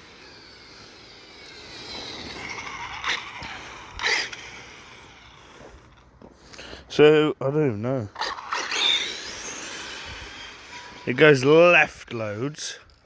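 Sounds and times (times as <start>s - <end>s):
rc car electric motor whining: 0.0s - 6.1s, 8.2s - 13.0s.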